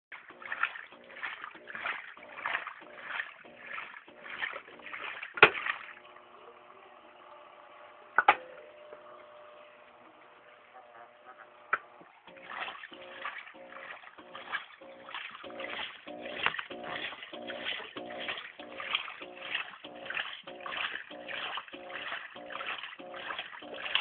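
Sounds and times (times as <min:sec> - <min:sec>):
washing machine water swishing: 0:00.1 - 0:07.9, 0:11.8 - 0:24.0
washing machine motor hum: 0:00.1 - 0:24.0.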